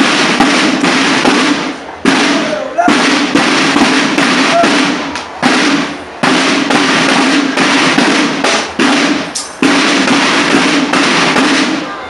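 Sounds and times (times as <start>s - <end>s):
drums playing rolling patterns: 0.0s - 12.0s.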